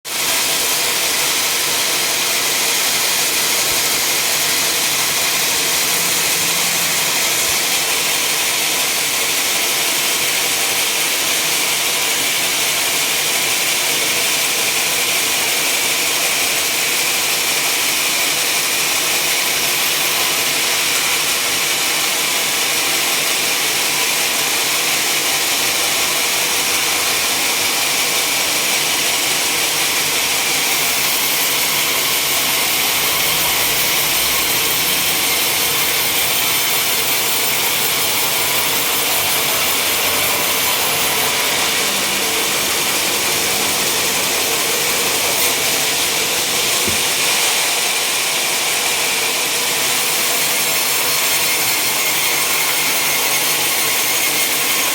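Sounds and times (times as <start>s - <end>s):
sawmill machinery cutting: 0.1s - 54.9s.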